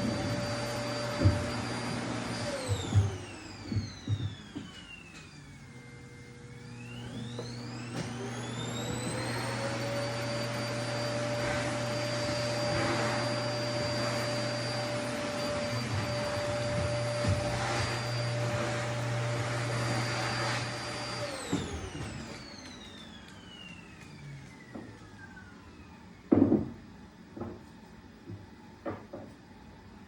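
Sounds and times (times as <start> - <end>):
vacuum cleaner motor whining: 0.0 - 26.6.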